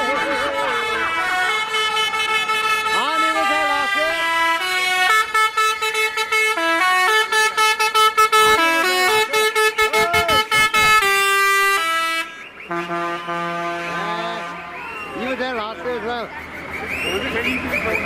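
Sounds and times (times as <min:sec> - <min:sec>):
low steady horn tone: 0:00.0 - 0:14.7
musical air horns playing tune: 0:00.0 - 0:14.7.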